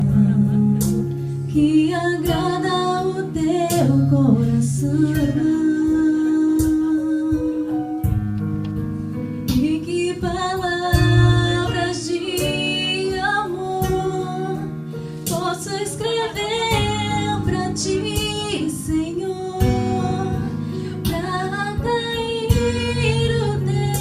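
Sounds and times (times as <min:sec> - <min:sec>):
woman singing: 0:00.0 - 0:08.2, 0:09.5 - 0:24.0.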